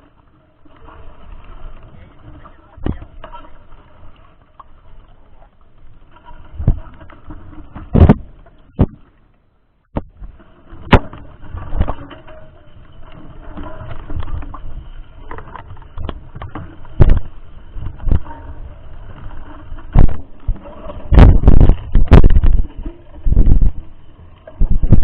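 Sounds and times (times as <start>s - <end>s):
bike rumbling over dirt trail: 0.0s - 9.0s, 10.0s - 25.0s
bike knocking and rattling: 0.0s - 9.1s, 9.9s - 25.0s.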